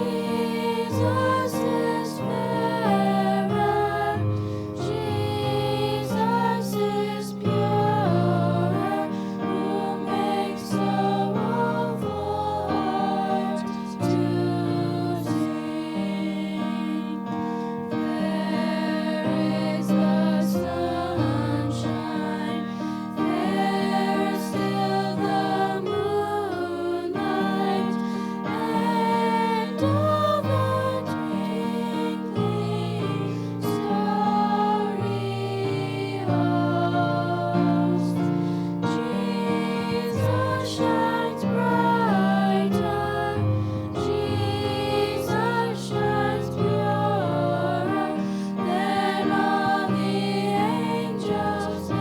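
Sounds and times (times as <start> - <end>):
girls singing a hymn: 0.0 - 52.0.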